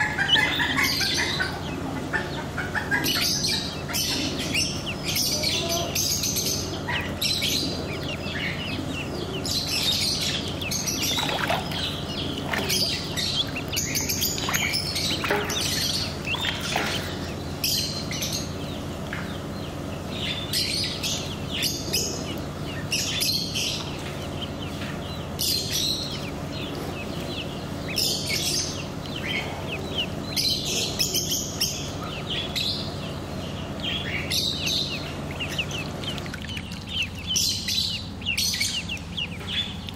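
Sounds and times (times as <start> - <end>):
ducklings peeping: 0.0 - 39.9
steady low hum: 0.0 - 39.9.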